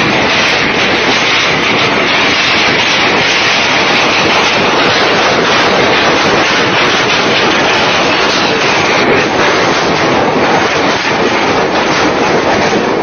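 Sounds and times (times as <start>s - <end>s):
hailstones pelting down: 0.0s - 13.0s.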